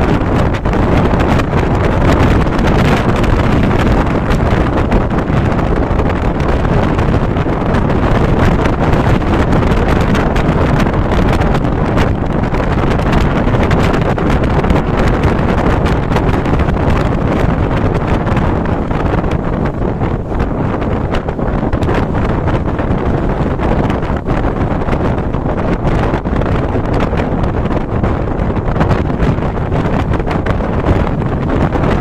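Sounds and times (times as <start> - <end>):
train running rumble: 0.0 - 32.0
wind buffeting microphone: 0.0 - 32.0.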